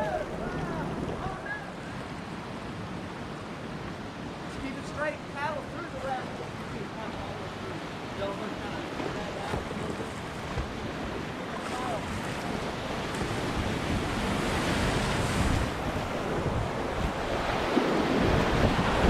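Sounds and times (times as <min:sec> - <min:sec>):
water buffeting microphone: 0:00.0 - 0:19.0
whitewater rushing and splashing: 0:00.0 - 0:19.0.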